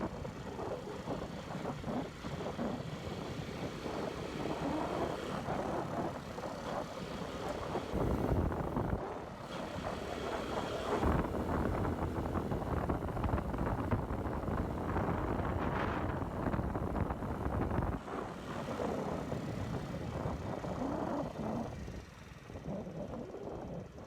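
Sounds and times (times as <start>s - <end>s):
wind buffeting microphone: 0.0s - 24.0s
motorcycle engine running: 0.1s - 23.4s.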